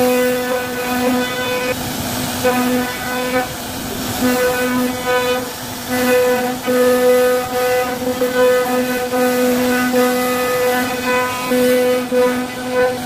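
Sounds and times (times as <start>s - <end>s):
router machine whine: 0.0s - 13.0s.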